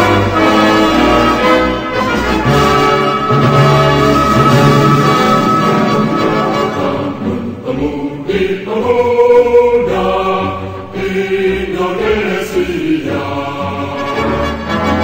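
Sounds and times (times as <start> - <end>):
choir holding long chords: 0.0 - 15.0.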